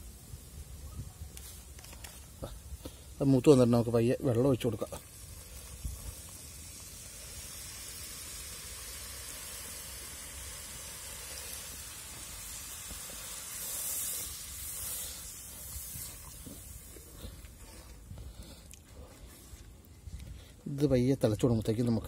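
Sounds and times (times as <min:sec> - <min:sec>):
oil hissing and sizzling: 0:00.0 - 0:21.0.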